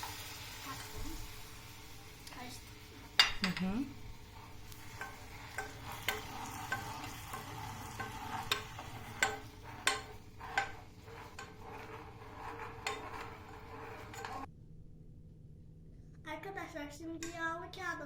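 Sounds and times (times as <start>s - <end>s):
faint sizzle: 0.0s - 14.5s.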